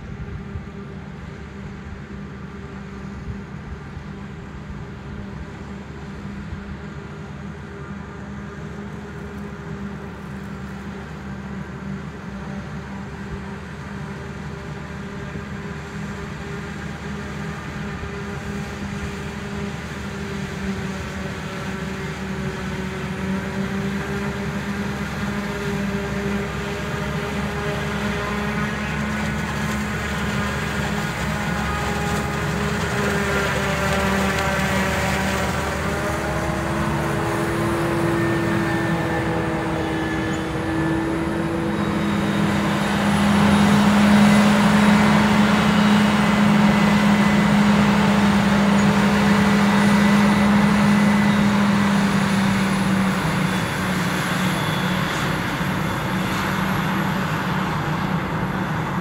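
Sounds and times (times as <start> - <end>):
harvester chopping drone: 5.5 - 59.0.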